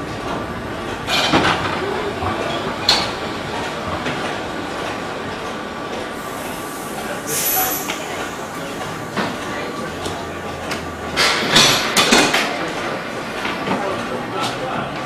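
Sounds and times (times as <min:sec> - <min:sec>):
train carriages rumbling on rails: 0:00.0 - 0:15.0.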